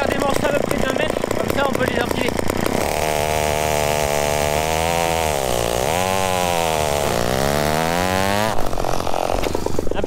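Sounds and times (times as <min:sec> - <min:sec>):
chainsaw cutting log: 0:00.0 - 0:10.0.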